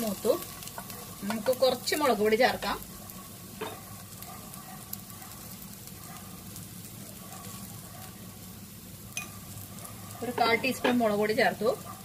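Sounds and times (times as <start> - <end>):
faint crackles: 0.0 - 12.0
food sizzling in oil: 0.0 - 12.0.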